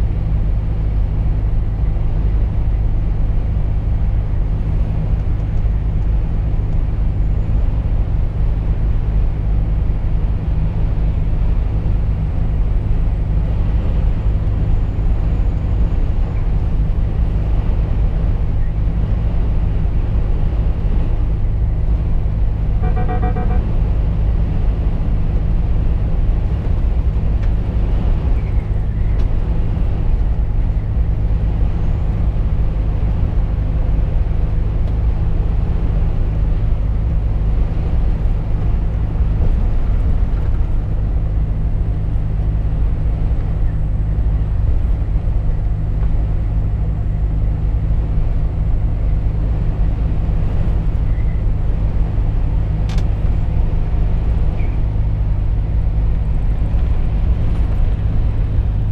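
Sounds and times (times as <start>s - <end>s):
diesel truck engine droning: 0.0s - 58.9s
road and tyre noise: 0.0s - 58.9s.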